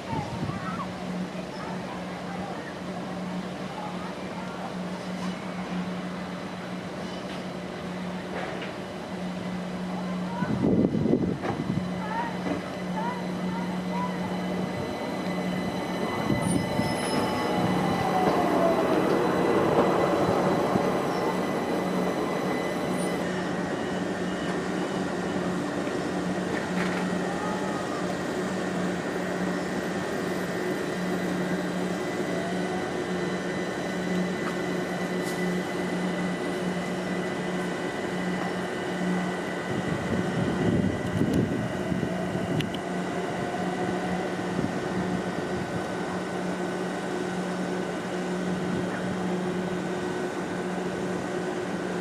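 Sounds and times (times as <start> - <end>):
train electric hum: 0.0 - 52.0.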